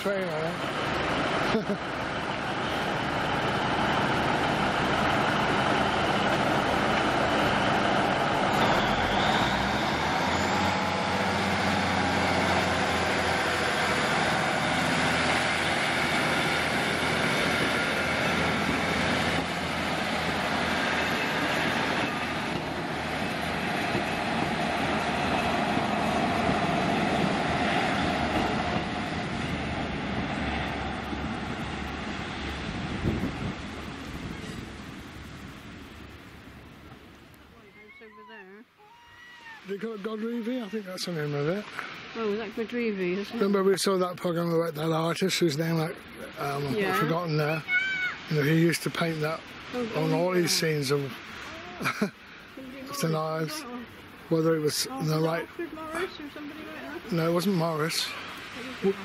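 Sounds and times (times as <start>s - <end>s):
diesel train engines running: 0.0s - 39.0s, 39.6s - 59.0s.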